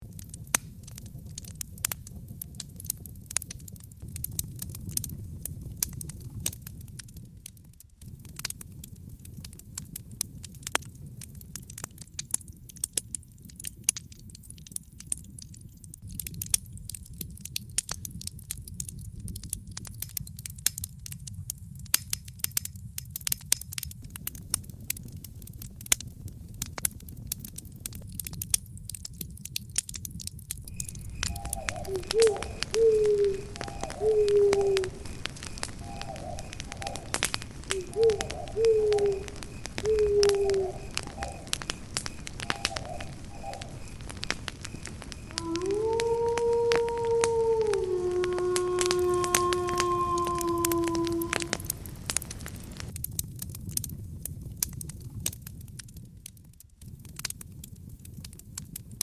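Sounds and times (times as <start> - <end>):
campfire crackling: 0.0 - 59.0
low rumble of flames: 0.0 - 59.0
pops and snaps of burning wood: 0.0 - 59.0.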